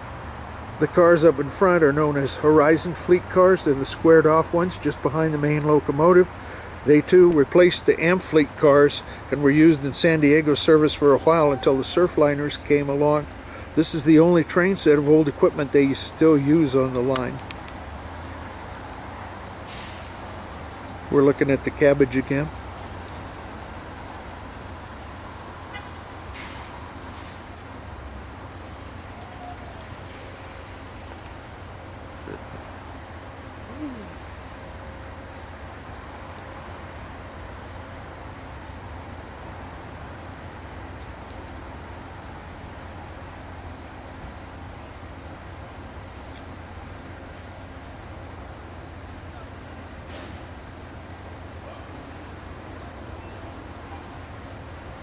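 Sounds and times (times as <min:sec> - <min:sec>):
crickets trilling: 0:00.0 - 0:55.0
slower insect chirp: 0:00.0 - 0:55.0.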